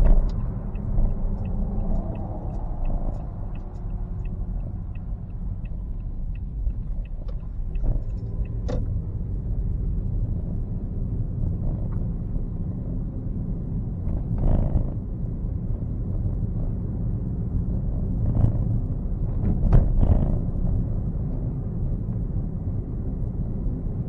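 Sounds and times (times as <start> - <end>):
road and engine rumble in car: 0.0 - 24.0.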